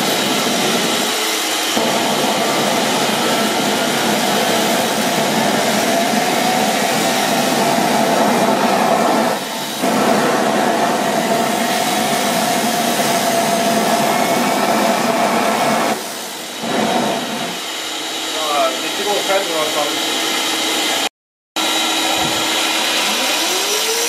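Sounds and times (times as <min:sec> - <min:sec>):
rush of burning gas: 0:00.0 - 0:19.8
jet engine whine: 0:00.0 - 0:24.0.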